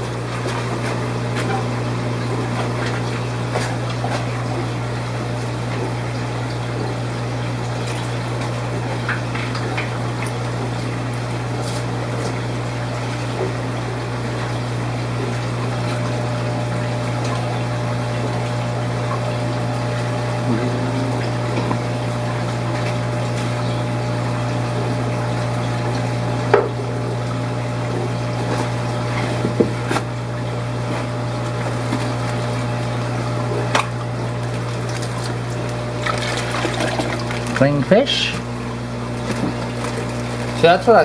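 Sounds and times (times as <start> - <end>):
aquarium pumps humming: 0.0 - 41.0
water splashing and trickling: 0.0 - 41.0.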